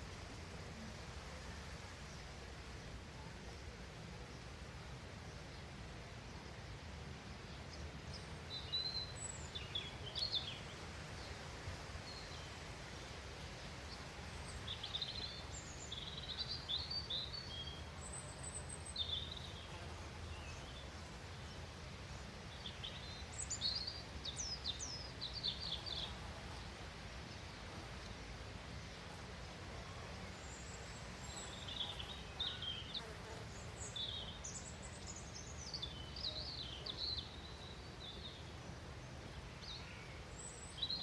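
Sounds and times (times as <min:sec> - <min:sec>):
small songbirds chirping: 0:05.3 - 0:41.0.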